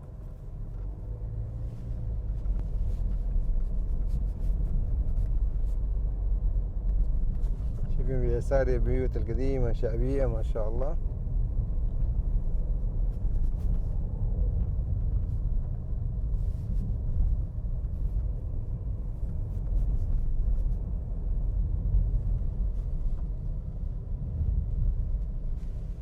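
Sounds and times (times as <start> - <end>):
moving vehicle rumble: 0.0 - 26.0.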